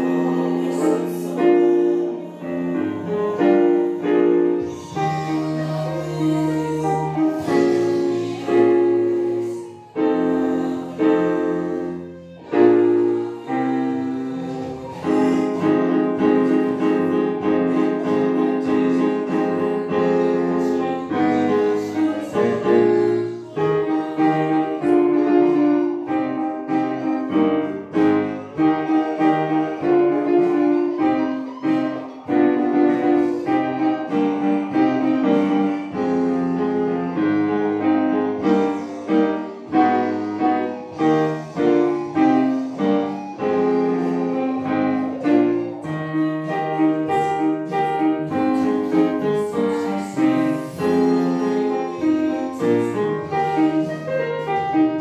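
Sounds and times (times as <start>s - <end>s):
keyboard piano music: 0.0s - 55.0s.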